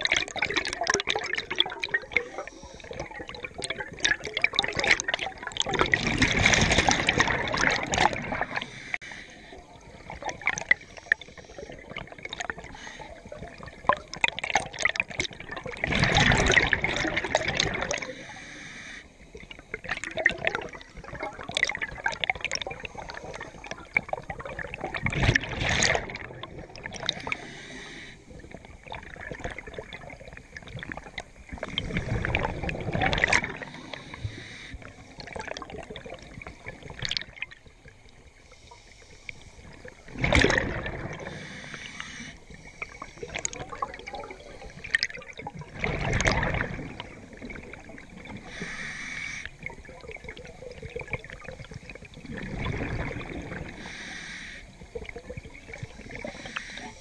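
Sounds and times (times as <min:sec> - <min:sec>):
scuba exhale bubble bursts: 0:00.0 - 0:09.0, 0:09.9 - 0:18.5, 0:19.3 - 0:37.8, 0:39.6 - 0:57.0
underwater hissing and bubbling: 0:00.0 - 0:57.0.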